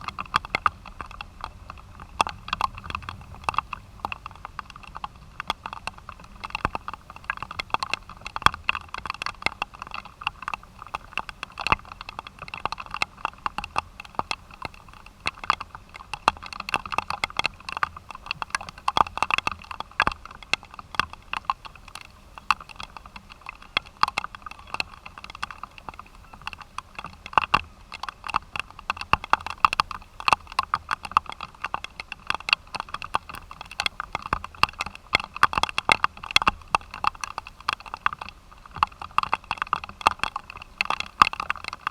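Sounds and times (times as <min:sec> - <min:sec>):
rain pattering on hard surface: 0:00.0 - 0:41.9.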